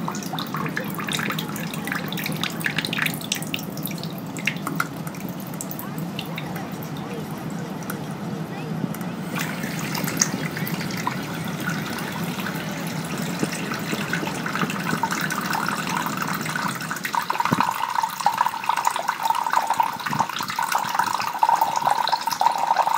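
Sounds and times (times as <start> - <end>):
running water splashing: 0.0 - 22.9.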